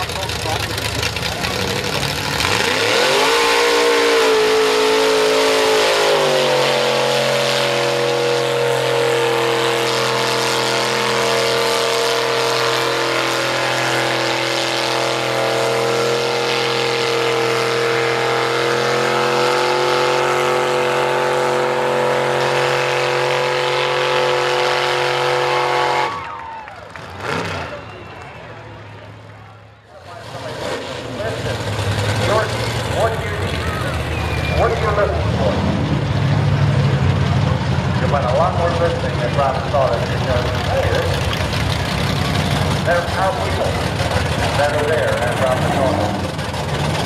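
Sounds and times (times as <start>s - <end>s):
truck engine revving at full throttle: 0.0s - 47.0s.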